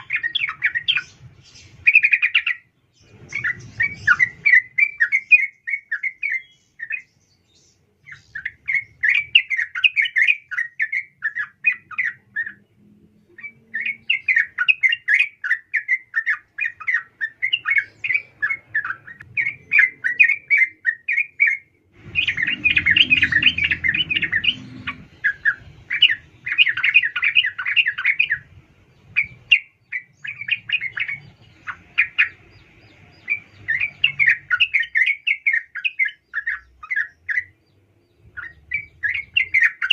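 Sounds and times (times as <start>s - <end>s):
bulbul chattering calls: 0.0s - 7.2s, 13.4s - 39.9s.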